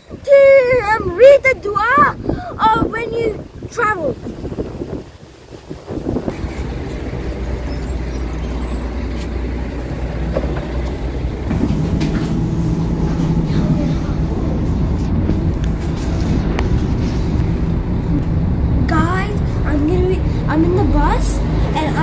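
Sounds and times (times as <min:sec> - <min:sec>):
bus engine idling: 0:00.0 - 0:22.0
steady engine hum inside bus: 0:00.0 - 0:22.0.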